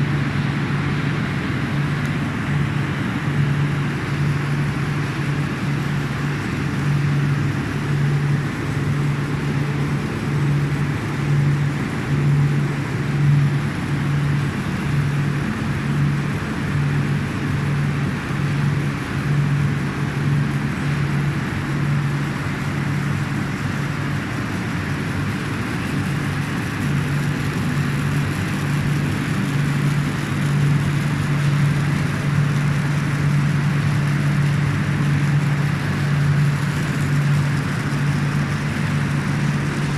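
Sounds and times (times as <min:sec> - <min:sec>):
pulsing low hum: 0:00.0 - 0:39.9.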